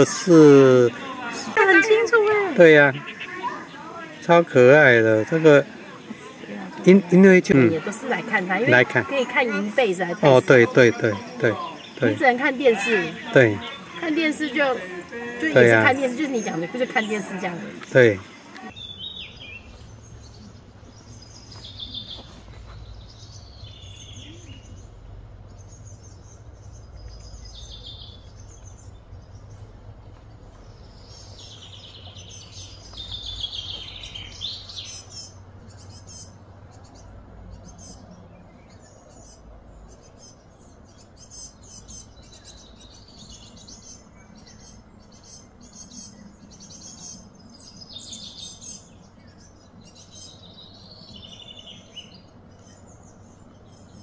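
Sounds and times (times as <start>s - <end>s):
birds chirping: 0.0s - 54.0s
steady low hum: 4.6s - 54.0s.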